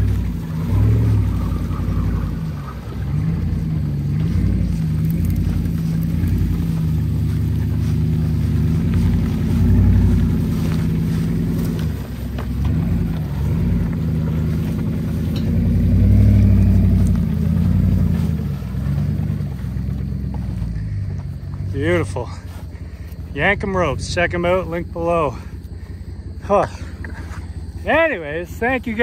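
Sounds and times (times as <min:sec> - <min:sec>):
truck engine running under load: 0:00.0 - 0:29.0.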